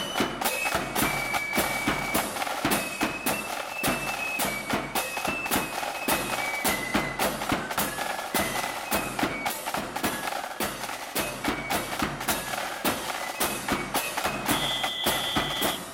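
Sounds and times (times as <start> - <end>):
flutes playing a march melody: 0.0 - 15.9.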